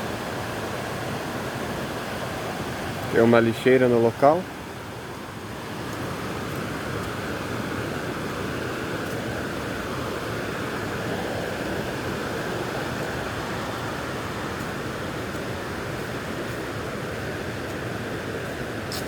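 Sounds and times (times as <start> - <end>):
river water rushing over rocks: 0.0 - 19.0.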